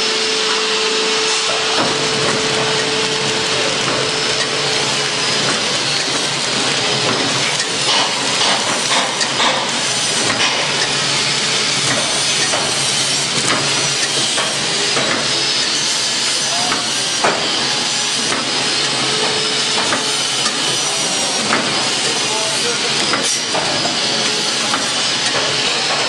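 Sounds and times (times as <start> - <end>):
machine hissing and whirring: 0.0 - 26.0.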